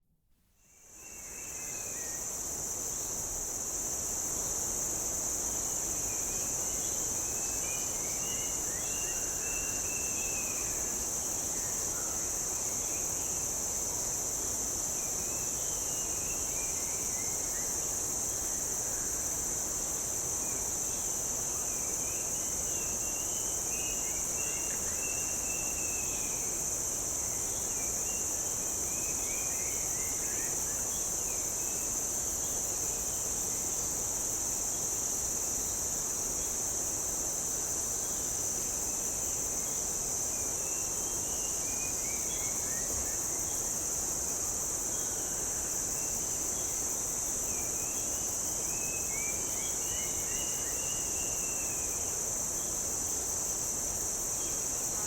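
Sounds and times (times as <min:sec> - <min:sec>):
insects droning: 0:00.6 - 0:55.0.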